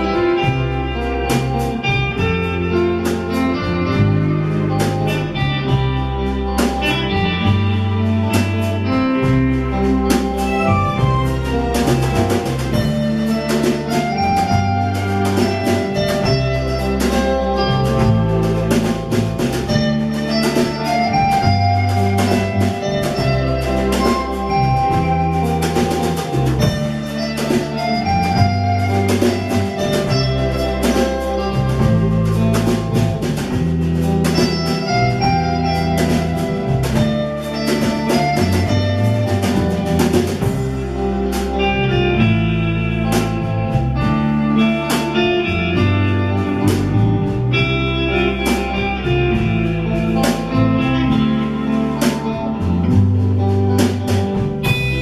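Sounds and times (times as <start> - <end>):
drum kit beat: 0.0 - 55.0
electric bass: 0.0 - 55.0
electric guitar melody: 0.0 - 55.0.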